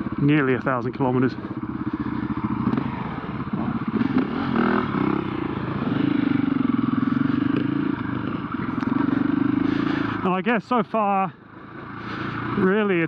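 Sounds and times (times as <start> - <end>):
motorcycle engine running: 0.0 - 13.0
wind and riding noise: 0.0 - 13.0.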